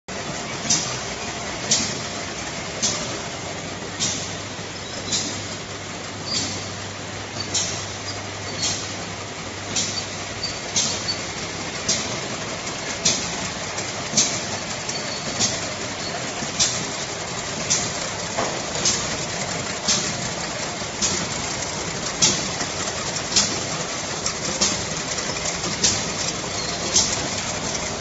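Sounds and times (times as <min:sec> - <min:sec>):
filling machine running: 0:00.1 - 0:28.0.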